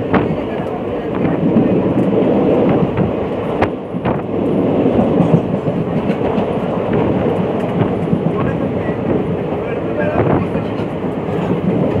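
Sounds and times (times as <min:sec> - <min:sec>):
train coach rumbling on track: 0:00.0 - 0:12.0
train wheel clicks: 0:00.0 - 0:12.0.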